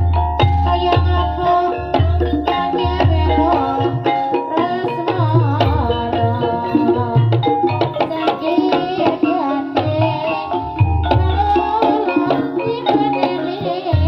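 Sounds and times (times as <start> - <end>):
metallophone notes: 0.0 - 14.0
person singing: 0.0 - 14.0.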